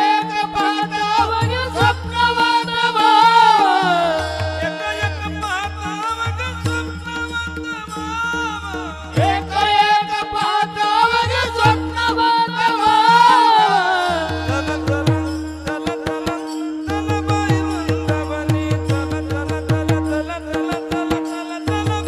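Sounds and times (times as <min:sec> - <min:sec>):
person singing devotional song: 0:00.0 - 0:22.0
tabla-like drum strokes: 0:00.8 - 0:22.0.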